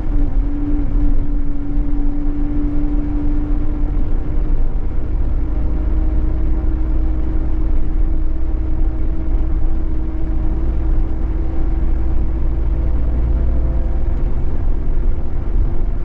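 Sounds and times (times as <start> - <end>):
bus diesel engine drone: 0.0 - 16.0
road noise: 0.0 - 16.0.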